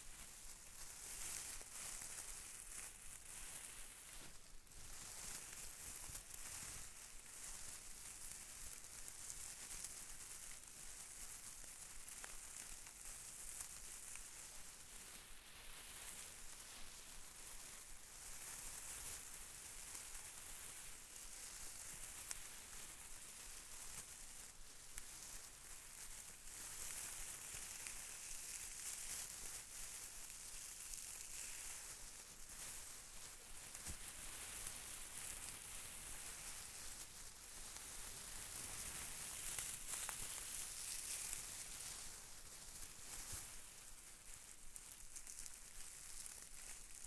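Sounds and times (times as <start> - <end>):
fine crinkly rustling: 0.0 - 47.0
steady hiss: 0.0 - 47.0.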